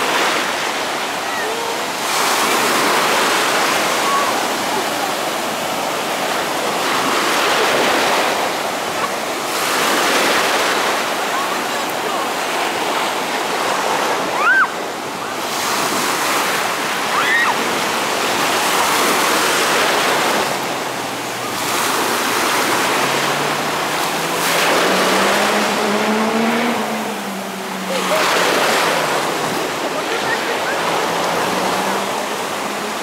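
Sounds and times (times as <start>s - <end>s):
small waves breaking: 0.0s - 33.0s.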